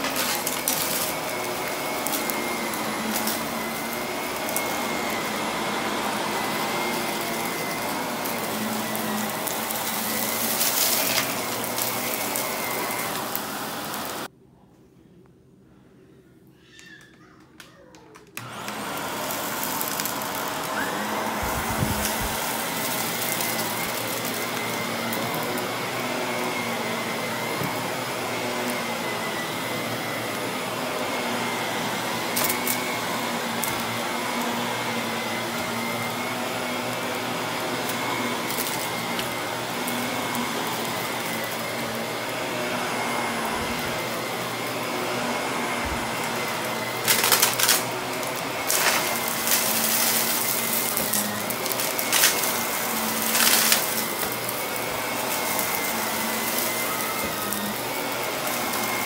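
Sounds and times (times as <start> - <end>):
vacuum cleaner running: 0.0 - 14.3, 18.4 - 59.0.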